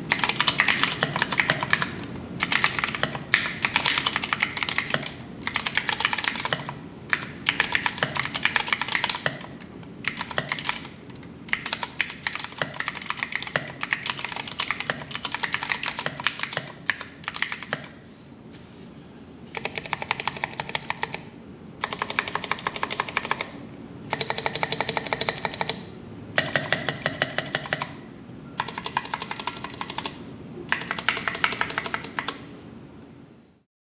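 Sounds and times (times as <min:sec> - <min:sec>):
mechanical keyboard typing: 0:00.1 - 0:18.0, 0:19.5 - 0:28.0, 0:28.6 - 0:32.5.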